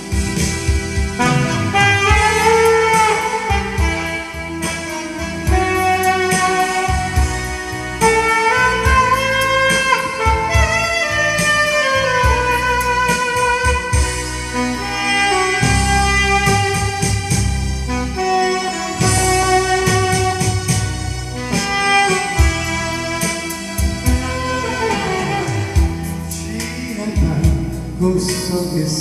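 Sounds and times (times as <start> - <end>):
saxophone melody: 0.0 - 28.4
backing track with drum beat: 0.0 - 29.0.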